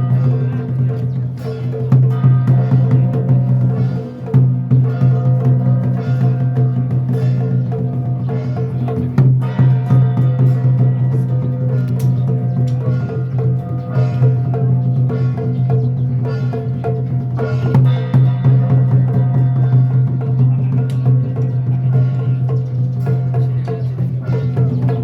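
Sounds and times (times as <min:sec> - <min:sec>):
drum and wood block strokes: 0:00.0 - 0:25.0.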